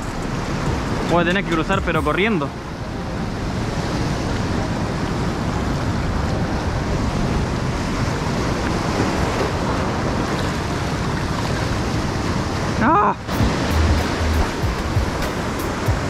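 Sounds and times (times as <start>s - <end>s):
sea surf over rocks: 0.0s - 16.0s
wind rumbling on microphone: 0.0s - 16.0s.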